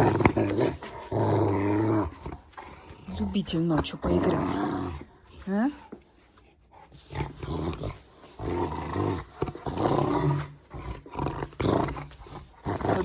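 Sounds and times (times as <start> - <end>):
dog growling: 0.0 - 6.0, 6.8 - 13.0.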